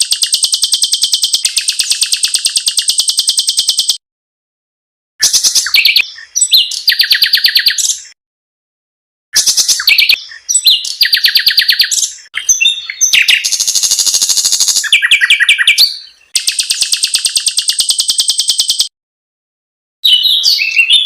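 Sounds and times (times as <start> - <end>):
songbirds trilling: 0.0 - 4.0, 5.2 - 8.2, 9.4 - 18.9, 20.0 - 21.0.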